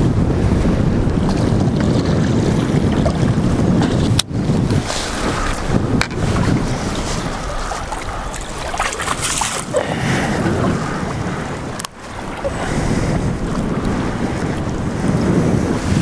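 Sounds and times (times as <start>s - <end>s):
wind rumbling on microphone: 0.0s - 16.0s
water lapping against boat hull: 0.1s - 16.0s.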